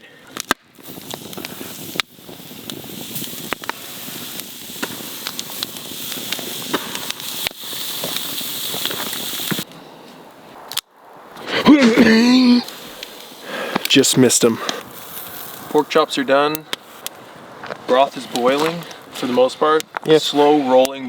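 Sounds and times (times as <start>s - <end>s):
fire pops and crackles: 0.1s - 21.0s
meat sizzling on a grill: 0.8s - 9.7s, 11.4s - 21.0s.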